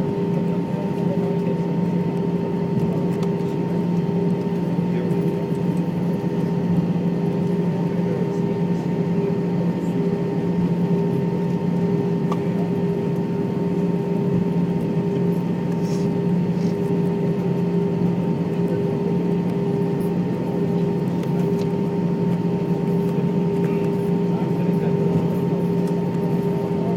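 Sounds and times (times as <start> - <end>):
airliner cabin drone: 0.0 - 26.9
steady humming tones: 0.0 - 26.9.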